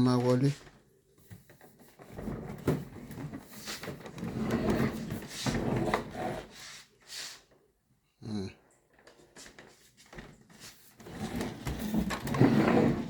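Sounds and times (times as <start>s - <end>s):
rubbing and scraping of objects: 0.0s - 7.5s, 9.4s - 13.0s.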